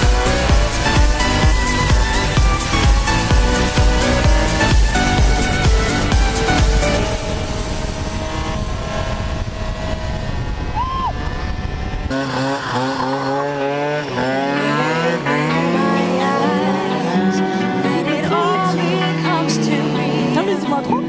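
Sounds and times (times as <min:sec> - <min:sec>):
engine noise: 0:00.0 - 0:21.0
small motorcycle engines revving: 0:00.0 - 0:21.0.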